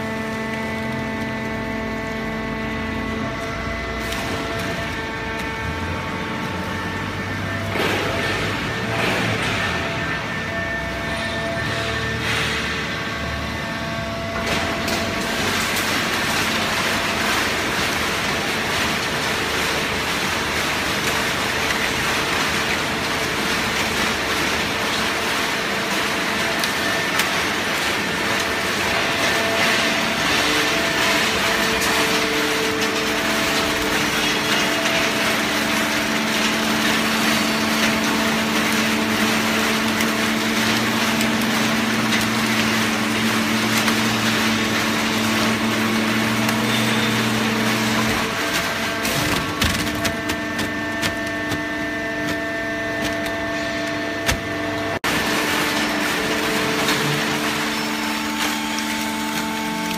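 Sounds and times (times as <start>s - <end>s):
baling press mechanical noise: 0.0s - 59.9s.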